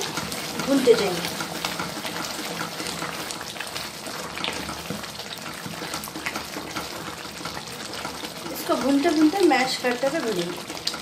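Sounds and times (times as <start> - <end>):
spatula stirring in a pan: 0.0 - 11.0
tomatoes sizzling in oil: 0.0 - 11.0.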